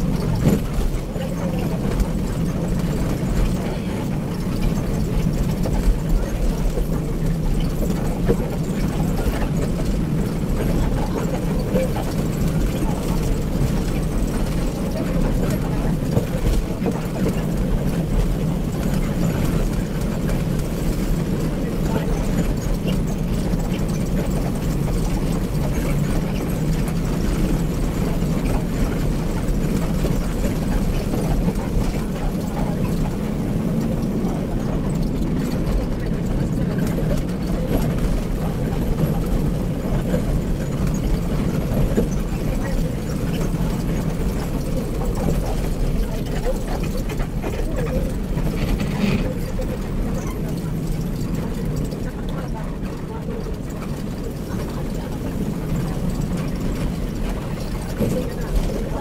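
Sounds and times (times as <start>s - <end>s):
bus diesel engine running: 0.0s - 59.0s
road noise: 0.0s - 59.0s.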